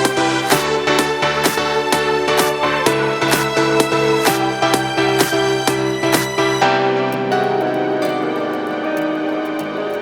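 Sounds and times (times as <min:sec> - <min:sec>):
ambient instrumental music: 0:00.0 - 0:10.0.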